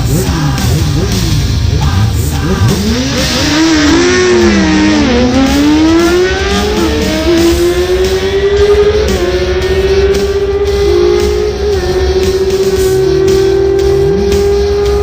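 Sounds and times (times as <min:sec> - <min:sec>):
motorcycle engines revving: 0:00.0 - 0:15.0
rock music: 0:00.0 - 0:15.0.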